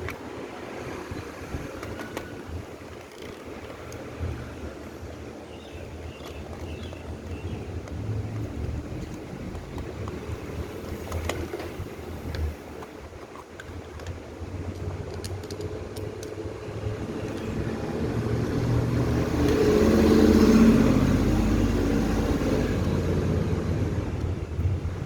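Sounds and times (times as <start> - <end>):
engine humming: 3.4 - 25.0.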